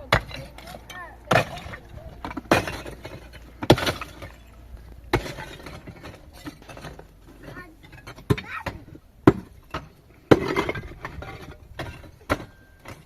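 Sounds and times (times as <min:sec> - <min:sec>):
debris breaking and crackling: 0:00.0 - 0:13.0
heavy demolition blows: 0:00.0 - 0:13.0.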